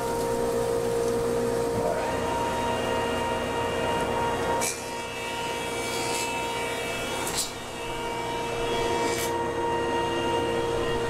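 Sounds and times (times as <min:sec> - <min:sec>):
planer planing a board: 0:01.8 - 0:11.0.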